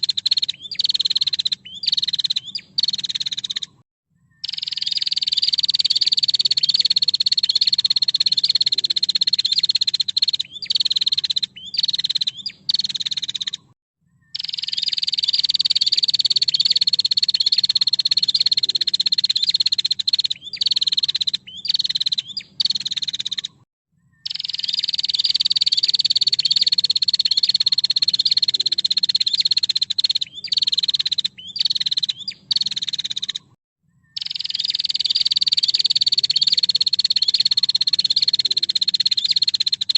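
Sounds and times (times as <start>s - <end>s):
bird rattling trill: 0.0s - 3.7s, 4.4s - 13.7s, 14.4s - 23.6s, 24.2s - 33.5s, 34.2s - 39.9s.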